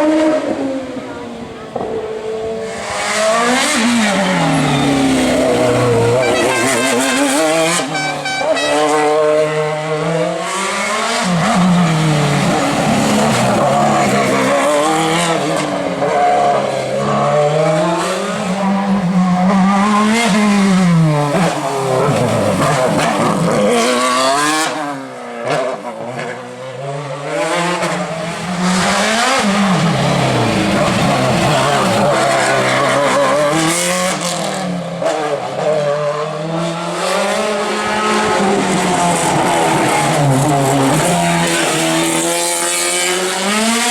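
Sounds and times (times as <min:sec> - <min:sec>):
racing car engine at full throttle: 0:00.0 - 0:43.9.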